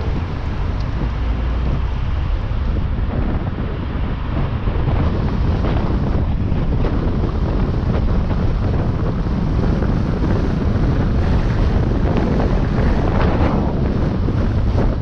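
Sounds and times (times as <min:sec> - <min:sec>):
road noise: 0:00.0 - 0:15.0
wind rumbling on microphone: 0:00.0 - 0:15.0.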